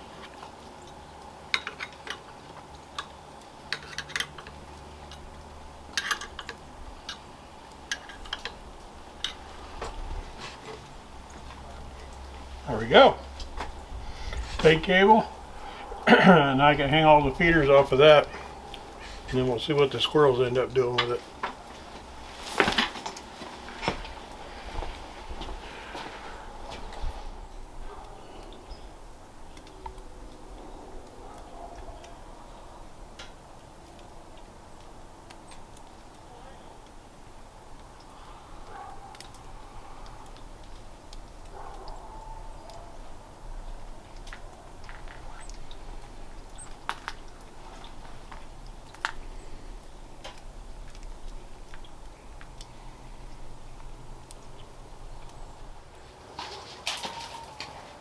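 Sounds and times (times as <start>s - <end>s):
faint background noise: 0.0s - 58.0s
low steady background noise: 0.0s - 58.0s.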